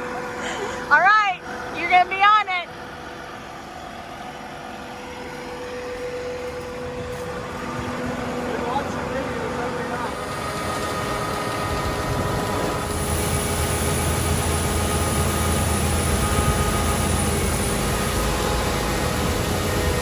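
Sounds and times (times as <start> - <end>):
heavy machine engine running: 0.0 - 20.0.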